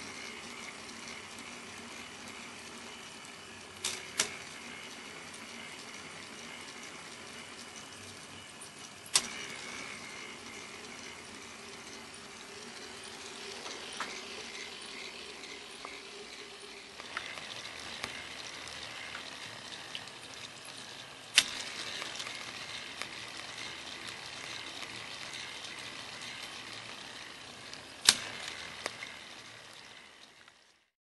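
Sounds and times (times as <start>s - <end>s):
plastic gears rattling: 0.0s - 30.9s.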